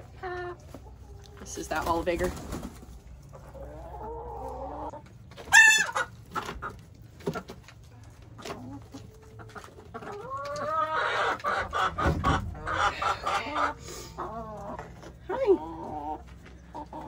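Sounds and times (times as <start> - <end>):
hen clucking and squawking: 0.0 - 17.0.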